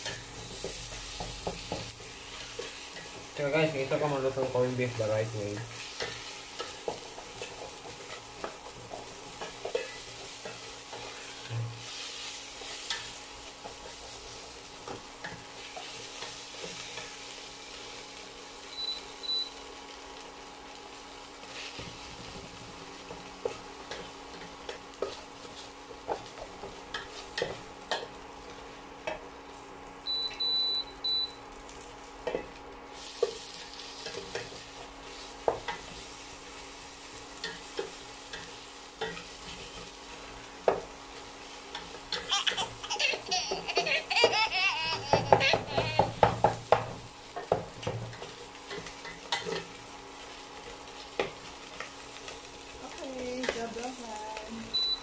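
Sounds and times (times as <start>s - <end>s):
meat sizzling in a pot: 0.0s - 55.0s.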